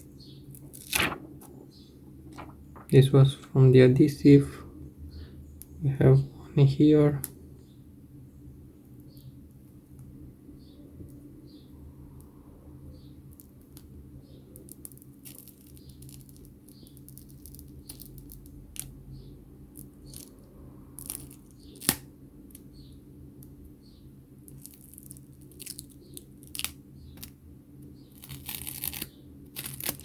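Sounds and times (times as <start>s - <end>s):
steady low hum: 0.0s - 15.2s, 15.9s - 28.3s.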